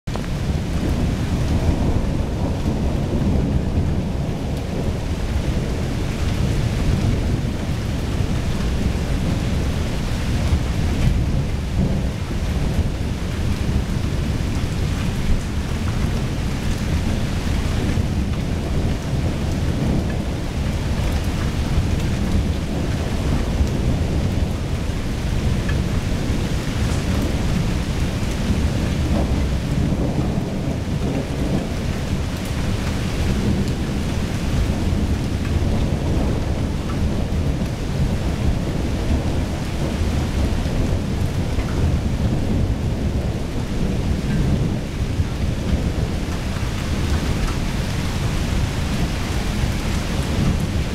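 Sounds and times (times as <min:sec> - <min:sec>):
steady rain: 0:00.0 - 0:50.9
low rumble of thunder: 0:00.1 - 0:50.9.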